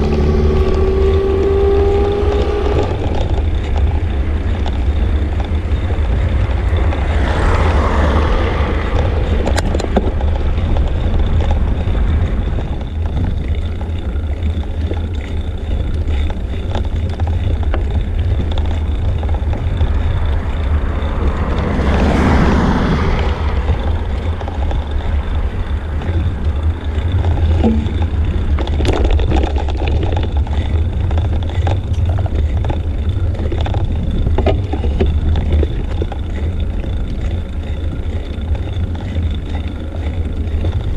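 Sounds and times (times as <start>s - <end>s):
passing vehicles road noise: 0.0s - 40.9s
wind buffeting microphone: 0.0s - 40.9s.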